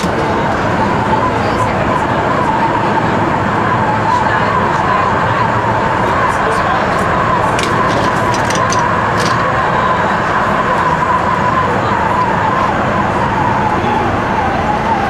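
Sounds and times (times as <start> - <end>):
tram running with whine: 0.0 - 15.0.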